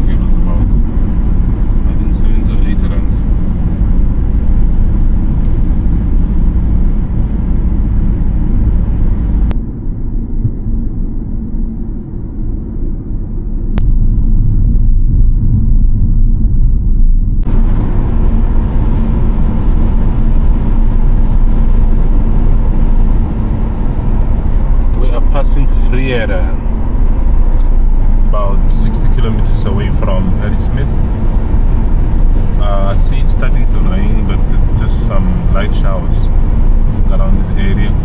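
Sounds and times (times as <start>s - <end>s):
road and engine rumble in car: 0.0s - 38.0s.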